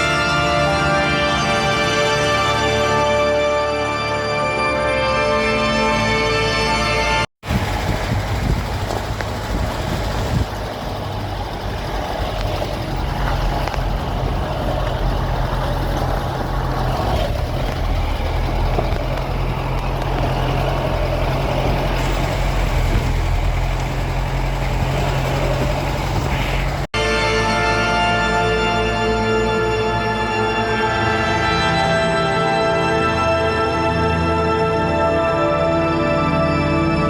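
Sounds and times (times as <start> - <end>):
road and wind noise: 0.0 - 37.0
vehicle engine hum: 0.0 - 37.0.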